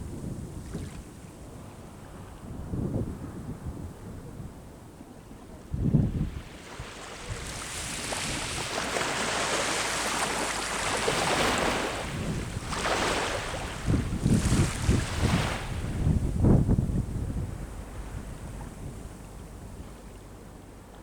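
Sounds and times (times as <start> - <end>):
sea waves breaking on shore: 0.0 - 2.5, 5.2 - 21.0
wind buffeting microphone: 0.0 - 21.0.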